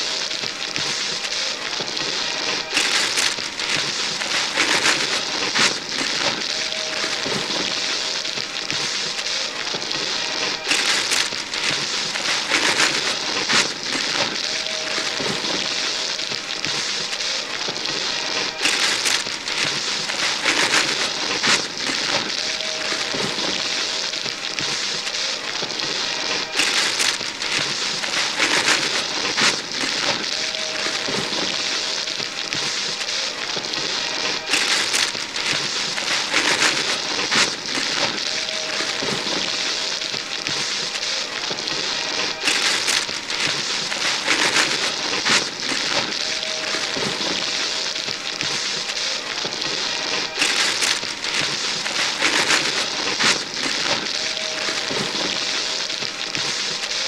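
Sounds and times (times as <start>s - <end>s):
wrapping paper tearing and crinkling: 0.0s - 57.0s.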